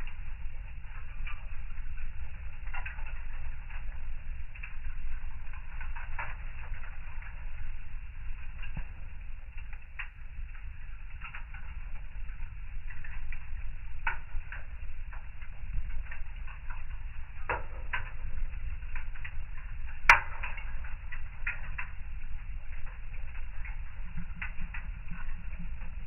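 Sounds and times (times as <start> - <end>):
fire crackling and popping: 0.0 - 26.0
low fire rumble: 0.0 - 26.0.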